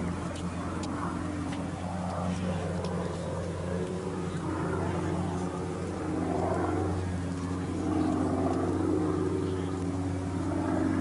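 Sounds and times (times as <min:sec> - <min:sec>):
plane flying overhead: 0:00.0 - 0:11.0.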